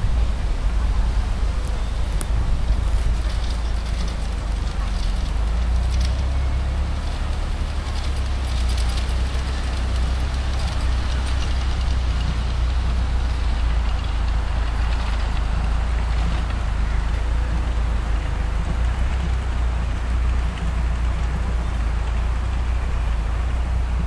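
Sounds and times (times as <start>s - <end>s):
miniature steam locomotive passing: 0.0s - 24.0s
steady low rumble: 0.0s - 24.0s.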